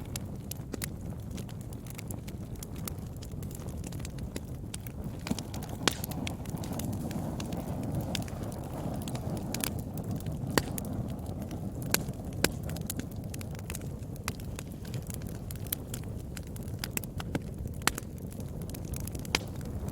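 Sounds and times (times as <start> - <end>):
fire crackling and popping: 0.0 - 19.9
fire flames rumbling: 0.0 - 19.9.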